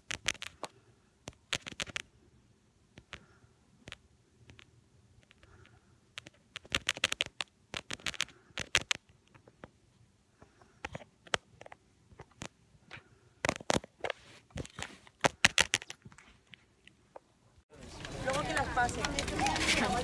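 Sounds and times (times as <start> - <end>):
clicks and scratches on phone microphone: 0.0 - 2.1, 2.9 - 17.3.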